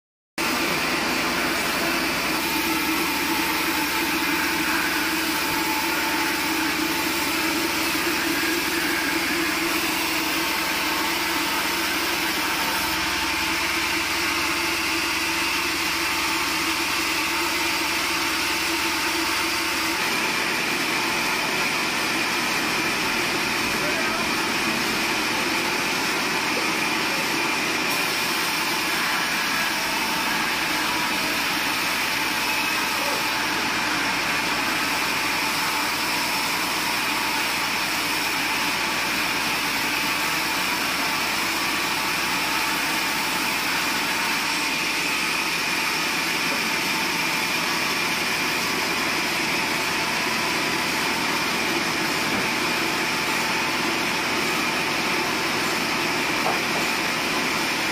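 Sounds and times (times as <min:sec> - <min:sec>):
band saw cutting log: 0:00.4 - 0:57.9.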